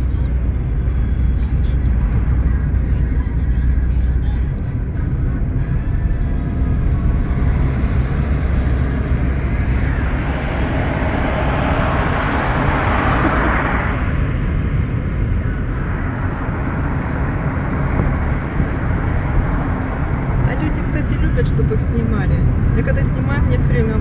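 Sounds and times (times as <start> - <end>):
car engine and tyre rumble: 0.0 - 24.0
passing traffic rush: 0.0 - 24.0.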